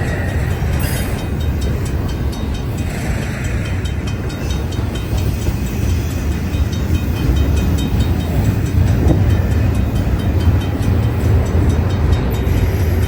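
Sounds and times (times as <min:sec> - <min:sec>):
freight cars rumbling: 0:00.0 - 0:13.0
wheels clicking over rails: 0:00.0 - 0:13.0.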